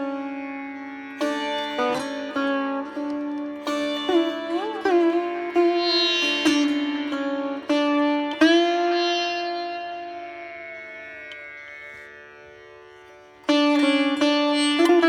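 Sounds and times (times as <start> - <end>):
plucked sitar-like notes: 0.0 - 15.0.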